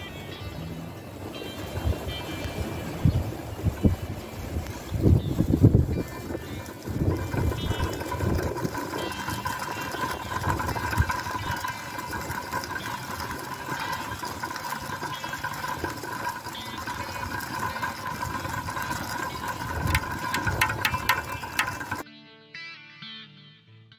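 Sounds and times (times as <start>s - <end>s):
wind buffeting microphone: 0.0s - 22.0s
whirligig blades whirring: 1.0s - 22.0s.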